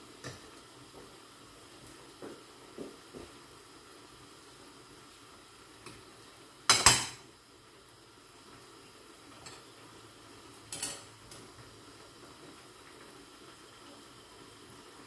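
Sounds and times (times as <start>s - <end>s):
faint frying sizzle: 0.0s - 15.0s.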